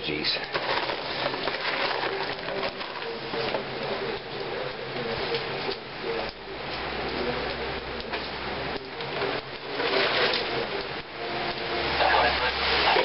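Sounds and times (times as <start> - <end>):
heavy rain falling: 0.0 - 13.0
wood fire crackling: 0.0 - 13.0.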